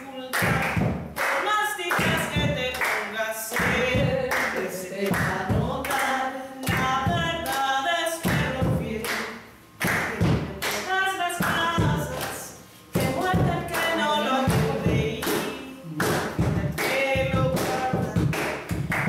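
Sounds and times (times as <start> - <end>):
group clapping a beat: 0.0 - 19.0
woman singing unaccompanied: 0.0 - 19.0.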